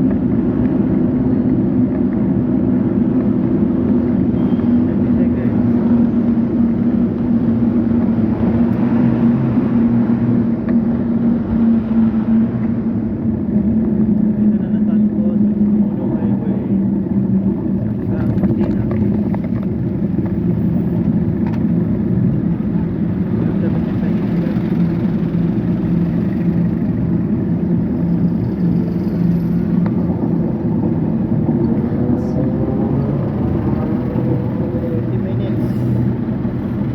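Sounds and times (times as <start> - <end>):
engine hum: 0.0 - 36.9
road and vehicle noise: 0.0 - 36.9.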